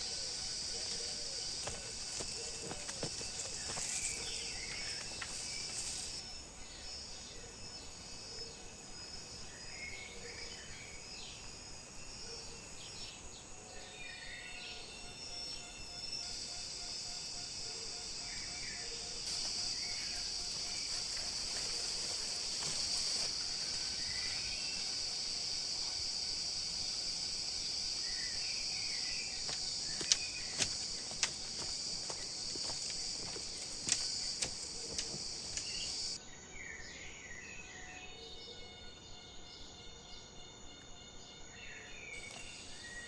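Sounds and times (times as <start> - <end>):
high-pitched insect drone: 0.0 - 43.0.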